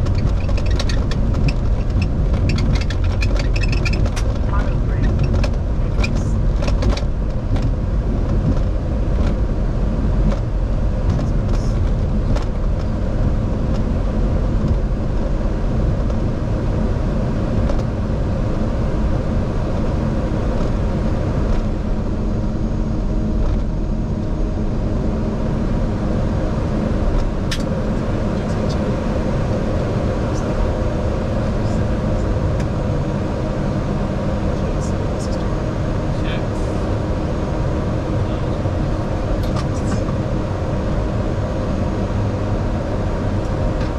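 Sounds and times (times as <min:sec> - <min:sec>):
airliner rumble on runway: 0:00.0 - 0:43.9.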